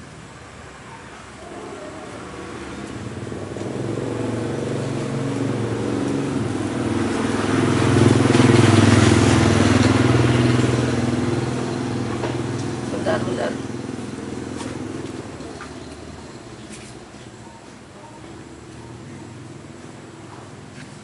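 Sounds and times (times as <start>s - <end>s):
vehicle engine passing by: 0.6s - 21.0s.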